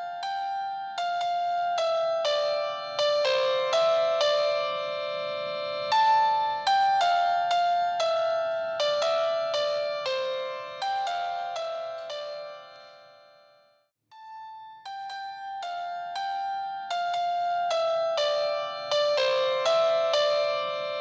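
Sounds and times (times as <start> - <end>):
keyboard melody: 0.0 - 21.0.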